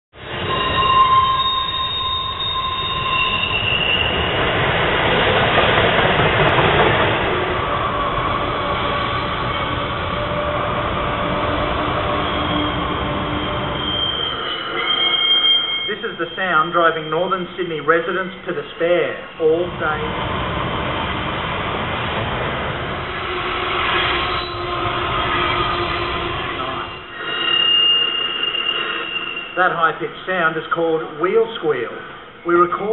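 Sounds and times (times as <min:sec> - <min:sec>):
train wheels squealing on rails: 0:00.2 - 0:20.2, 0:23.0 - 0:32.9
train wheels running on track: 0:00.2 - 0:32.9.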